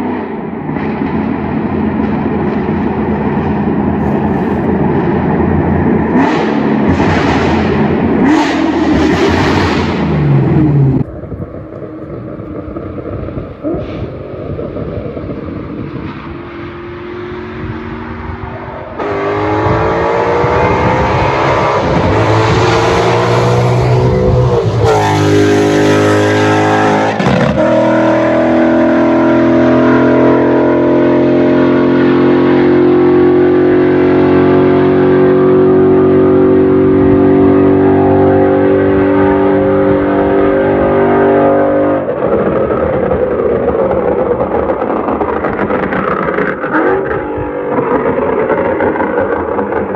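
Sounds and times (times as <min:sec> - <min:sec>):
car engine accelerating hard: 0:00.0 - 0:49.9.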